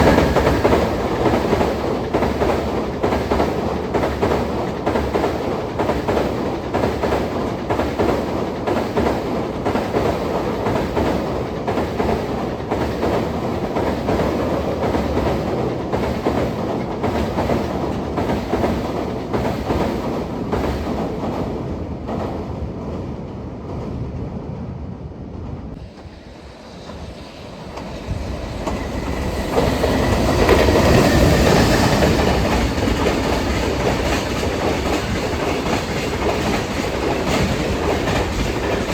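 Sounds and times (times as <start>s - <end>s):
train wheels clattering over rail joints: 0.0s - 22.4s, 26.8s - 38.9s.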